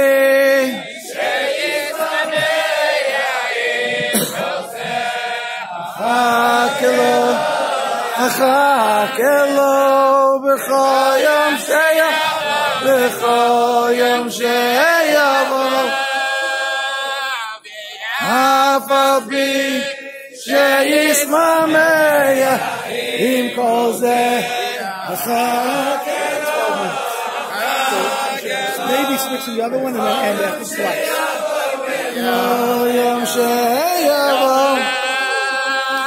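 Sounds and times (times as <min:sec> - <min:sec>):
men singing unaccompanied chant: 0:00.0 - 0:36.0.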